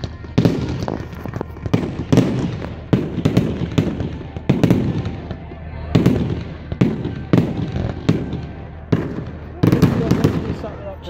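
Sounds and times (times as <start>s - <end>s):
fireworks bangs with rumble: 0.0s - 11.0s.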